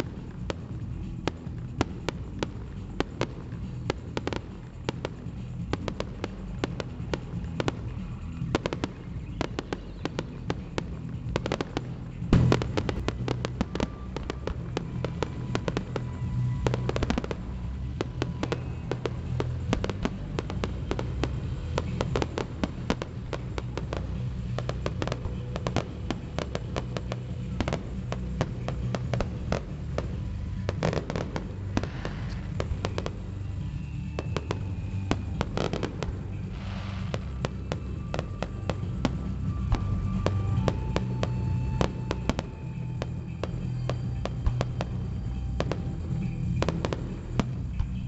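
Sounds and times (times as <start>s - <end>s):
fireworks bangs and crackles: 0.0s - 48.0s
music: 0.0s - 48.0s.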